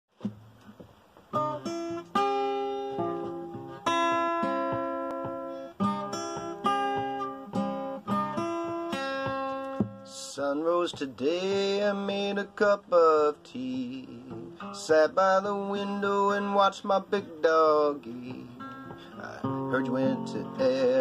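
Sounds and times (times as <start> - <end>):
acoustic guitar folk song: 0.1 - 21.0.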